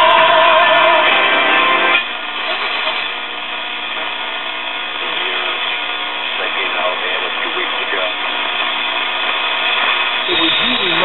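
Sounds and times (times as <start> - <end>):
radio receiver tuning across stations: 0.0 - 11.0.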